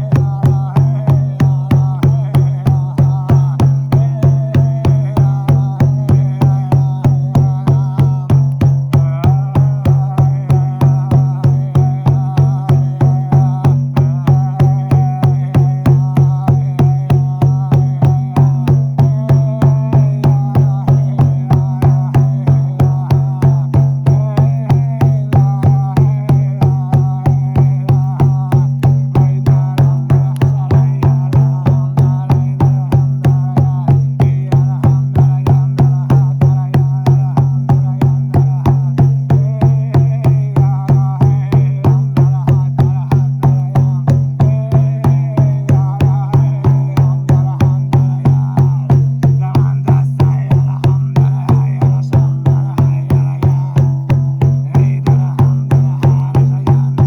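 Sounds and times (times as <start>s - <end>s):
frame drum beaten: 0.0s - 57.0s.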